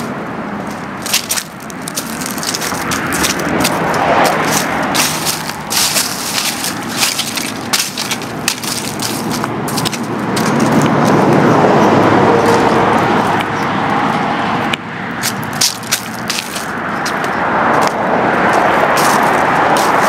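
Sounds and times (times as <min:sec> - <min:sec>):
footsteps crunching dry leaves: 0:00.0 - 0:13.4, 0:15.1 - 0:20.0
steady rushing noise: 0:00.0 - 0:20.0.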